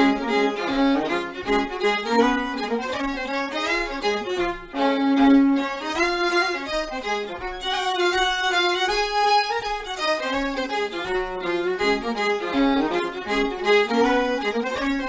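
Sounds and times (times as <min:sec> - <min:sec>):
fiddles playing a folk tune: 0:00.0 - 0:15.0.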